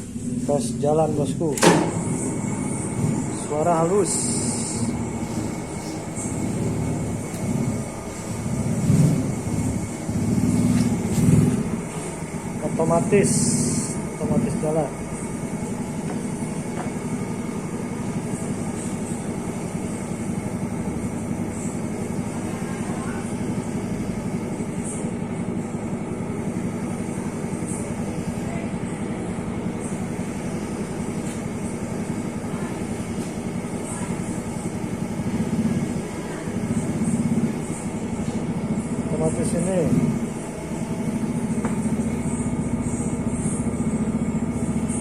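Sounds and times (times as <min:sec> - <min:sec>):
lathe running with steady hum: 0:00.0 - 0:45.0.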